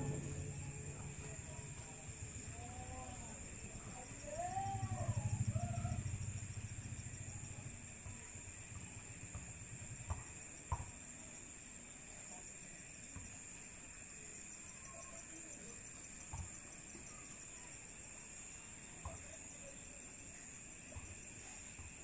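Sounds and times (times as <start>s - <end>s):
night insects chorus: 0.0s - 22.0s
rapid pulsing insect trill: 0.0s - 22.0s.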